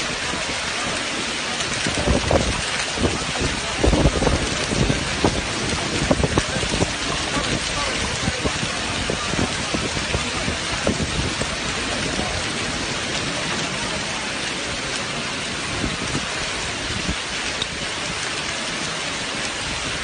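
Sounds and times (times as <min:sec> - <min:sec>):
heavy rain pouring: 0:00.0 - 0:20.0
raindrops knocking hard surfaces: 0:00.0 - 0:20.0.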